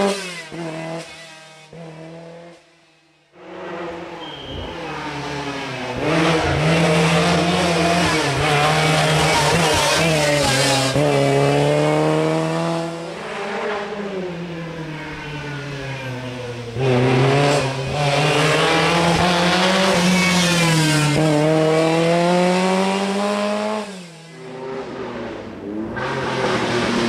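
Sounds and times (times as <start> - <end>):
rally car engines racing past: 0.0 - 27.0.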